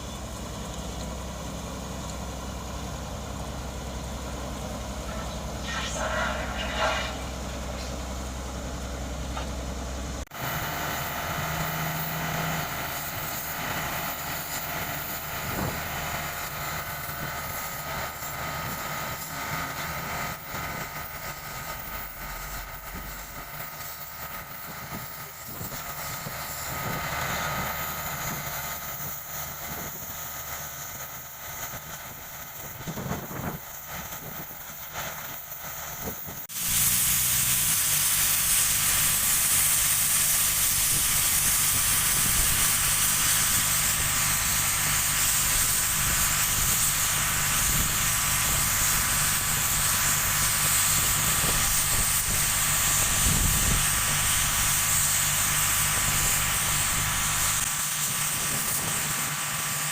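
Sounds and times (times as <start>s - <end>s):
diesel engines running: 0.0s - 59.9s
loud steady hiss: 0.0s - 59.9s.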